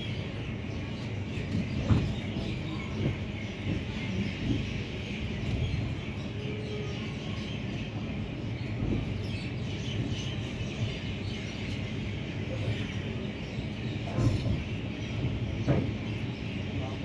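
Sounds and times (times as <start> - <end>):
train rumbling slowly: 0.0 - 17.0.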